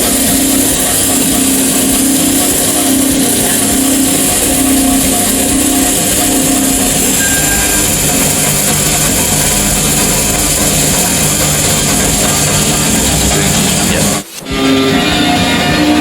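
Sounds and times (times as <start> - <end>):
hot-air blower rushing: 0.0 - 16.0
music playing: 0.0 - 16.0.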